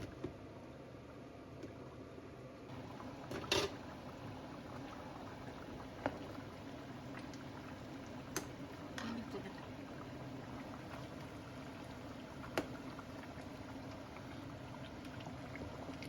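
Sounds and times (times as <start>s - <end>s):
curry bubbling in a pot: 2.7s - 16.0s.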